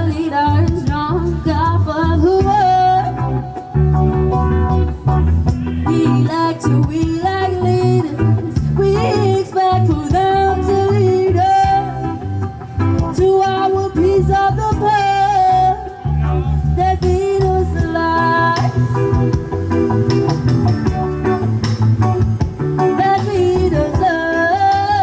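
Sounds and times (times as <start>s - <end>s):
reggae guitar and bass: 0.0s - 25.0s.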